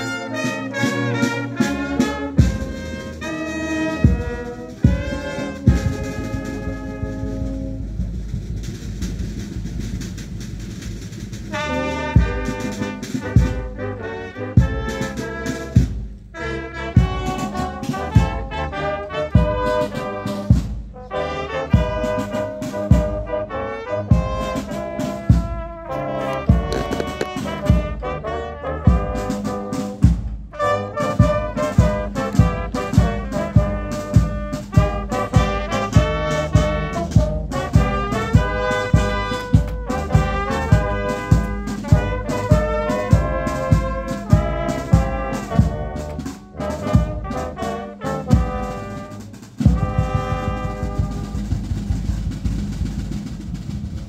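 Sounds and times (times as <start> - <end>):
brass band playing: 0.0 - 54.0
steady drum beat: 0.0 - 54.0.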